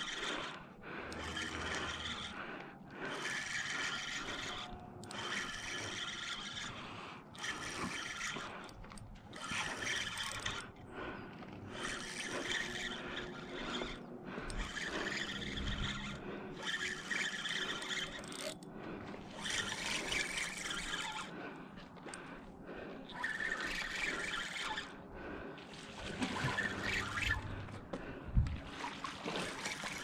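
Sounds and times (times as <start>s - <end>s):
fishing reel whirring: 0.0s - 25.1s, 25.9s - 30.0s.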